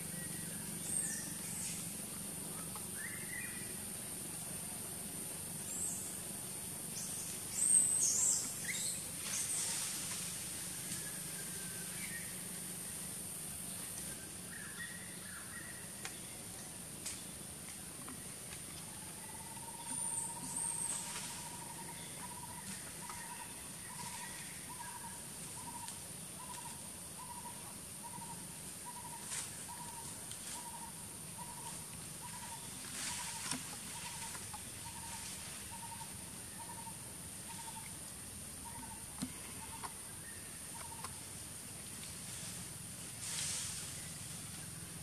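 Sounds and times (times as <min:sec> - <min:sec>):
constant high hiss: 0:00.0 - 0:45.0.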